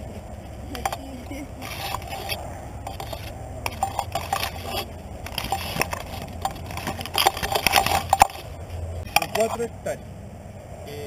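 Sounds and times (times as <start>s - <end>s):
low steady rumble: 0.0s - 11.0s
leaves crackling against camera: 0.4s - 9.6s.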